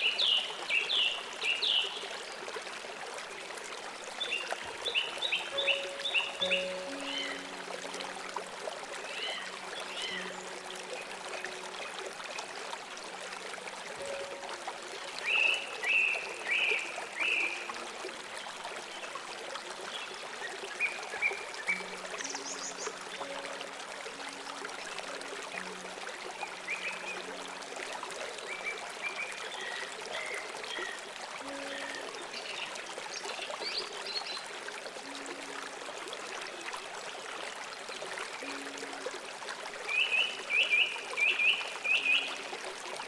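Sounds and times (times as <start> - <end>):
river water flowing: 0.0 - 43.0
soft background music: 0.2 - 43.0.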